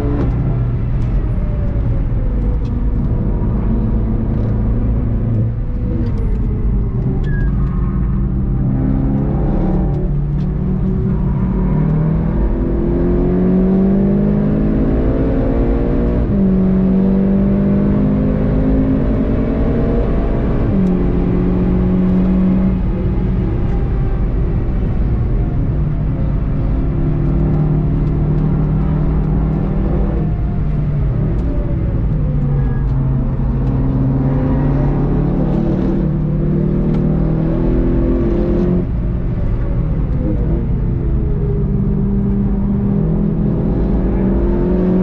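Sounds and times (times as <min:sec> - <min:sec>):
car engine revving: 0:00.0 - 0:45.0
tyre and road noise: 0:00.0 - 0:45.0.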